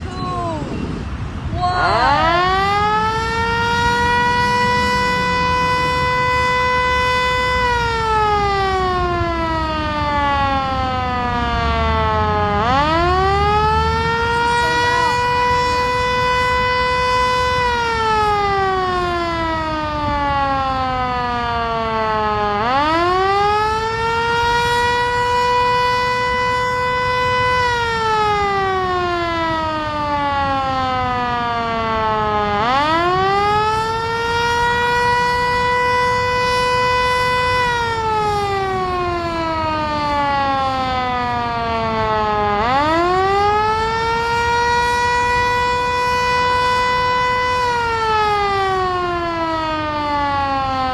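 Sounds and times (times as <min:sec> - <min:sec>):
warning siren wailing: 0:00.0 - 0:50.9.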